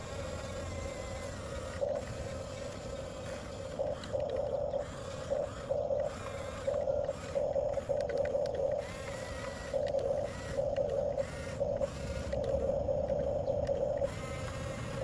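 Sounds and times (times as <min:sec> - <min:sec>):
toy bulldozer motors whining: 0:00.0 - 0:15.0.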